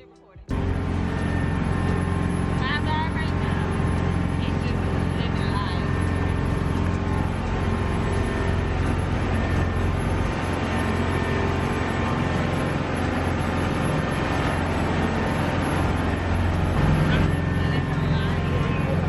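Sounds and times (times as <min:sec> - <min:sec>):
vehicle engine running: 0:00.4 - 0:19.0.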